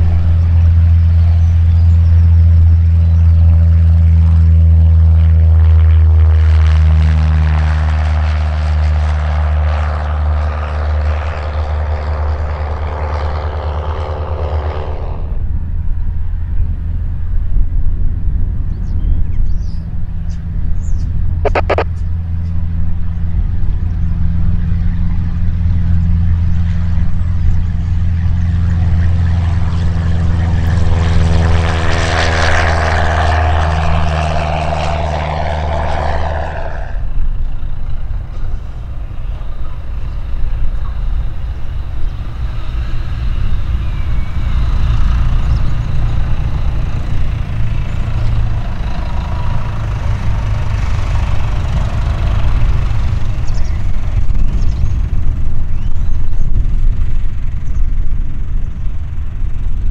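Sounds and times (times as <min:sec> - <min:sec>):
light aircraft engine at high power: 0:00.0 - 0:59.9
low engine drone: 0:00.0 - 0:59.9.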